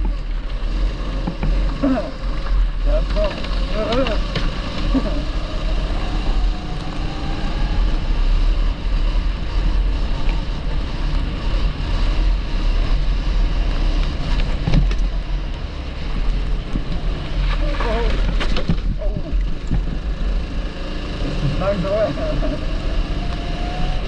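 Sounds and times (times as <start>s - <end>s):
kart engine running: 0.0s - 24.0s.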